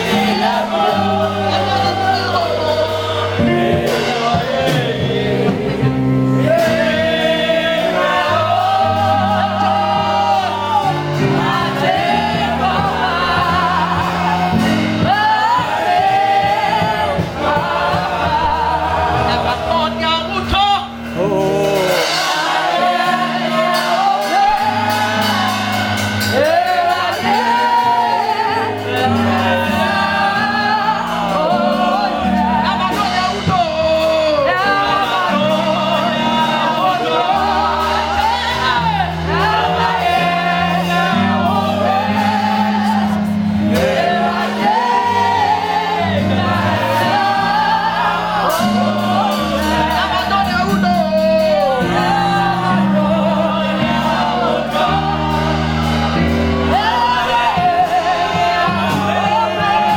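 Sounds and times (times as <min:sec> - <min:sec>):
gospel worship singing: 0:00.0 - 0:59.9
instrumental accompaniment: 0:00.0 - 0:59.9
sustained bass notes: 0:00.0 - 0:59.9.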